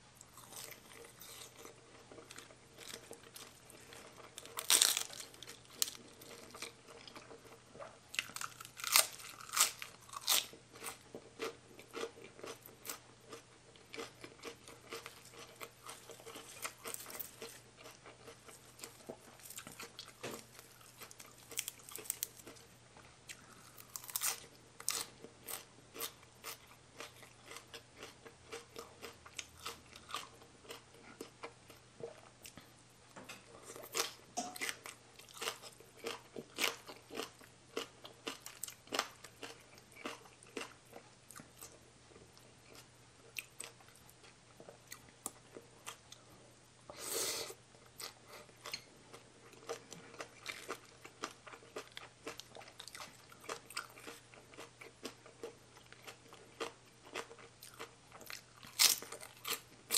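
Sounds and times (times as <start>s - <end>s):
person chewing crunchy food: 0.2s - 32.8s, 33.4s - 46.3s, 46.9s - 59.9s.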